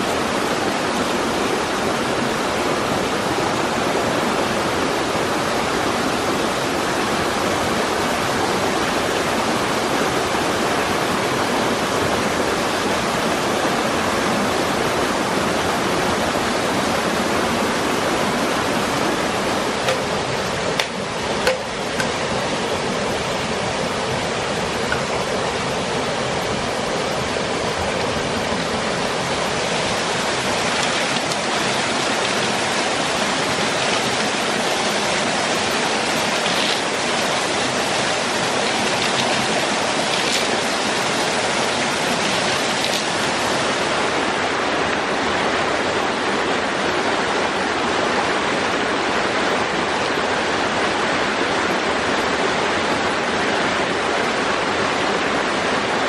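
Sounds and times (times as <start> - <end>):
fast-flowing stream water: 0.0 - 56.0.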